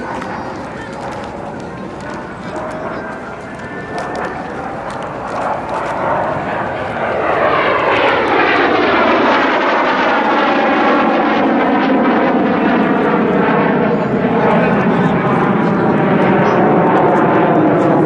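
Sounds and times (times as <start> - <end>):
jet flying past: 0.0 - 18.0.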